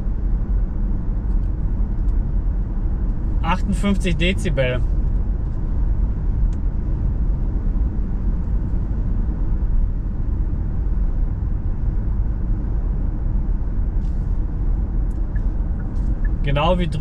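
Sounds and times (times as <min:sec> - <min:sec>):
wind noise in car cabin: 0:00.0 - 0:17.0.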